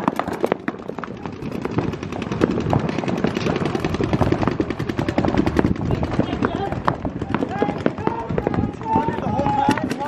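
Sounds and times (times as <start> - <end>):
paintball markers firing rapidly: 0.0 - 10.0.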